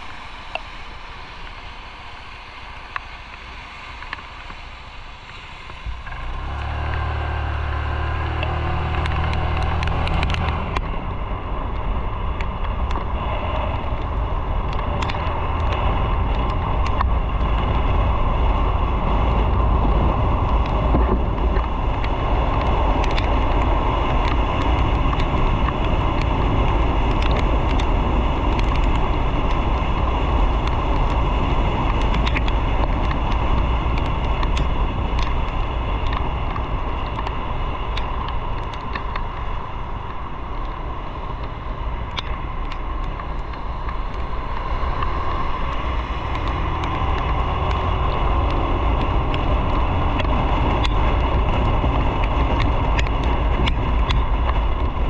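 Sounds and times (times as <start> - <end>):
wind rushing over microphone: 0.0 - 55.0
motorcycle engine: 5.3 - 55.0.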